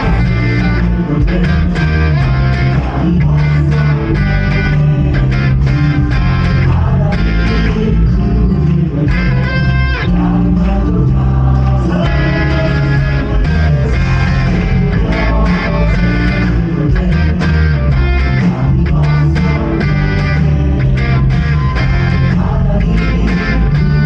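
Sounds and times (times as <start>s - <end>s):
bass guitar: 0.0s - 24.0s
electric guitar: 0.0s - 24.0s
praise band playing worship song: 0.0s - 24.0s.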